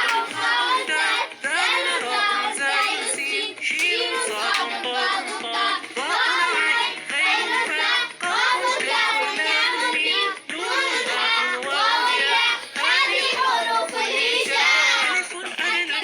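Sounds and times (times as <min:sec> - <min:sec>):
child singing: 0:00.0 - 0:16.0
music: 0:00.0 - 0:16.0.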